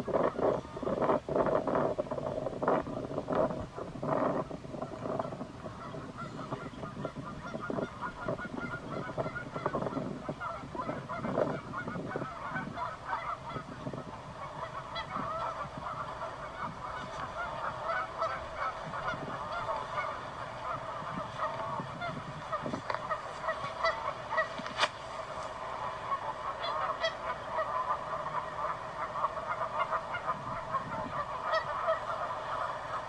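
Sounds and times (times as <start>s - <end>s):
flock of birds calling: 2.6s - 33.0s.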